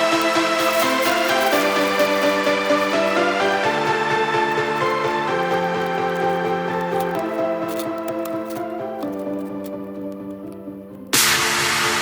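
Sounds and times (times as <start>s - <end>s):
background music with sustained chords: 0.0s - 12.0s.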